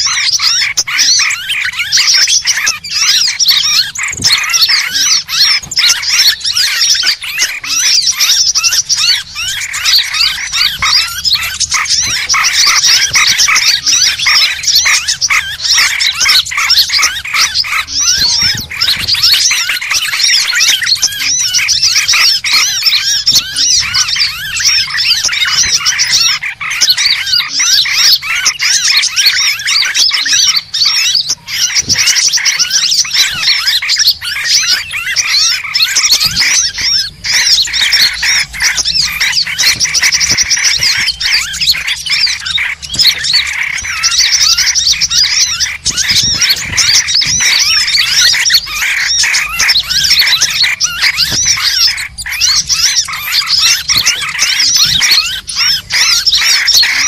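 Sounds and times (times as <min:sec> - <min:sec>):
chorus of small birds chirping: 0:00.0 - 0:57.0.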